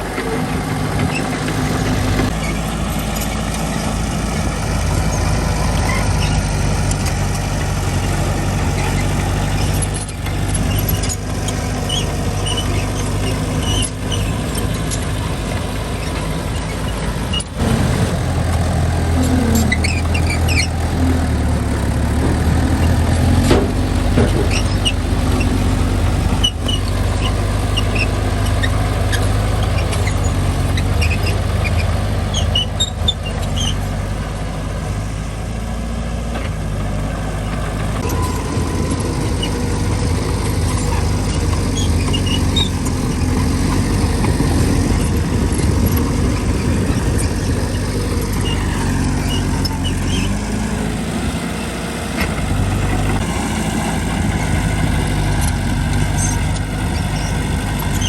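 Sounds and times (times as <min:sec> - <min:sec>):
diesel engine under load: 0:00.0 - 0:58.0
short high squeaks: 0:02.3 - 0:04.2, 0:05.0 - 0:15.1, 0:15.9 - 0:17.8, 0:19.0 - 0:34.0, 0:37.4 - 0:52.3, 0:55.2 - 0:58.0.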